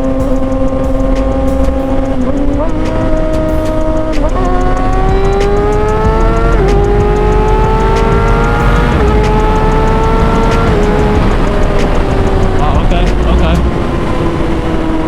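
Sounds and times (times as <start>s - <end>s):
motorcycle engine accelerating: 0.0s - 15.0s
wind rush: 0.0s - 15.0s.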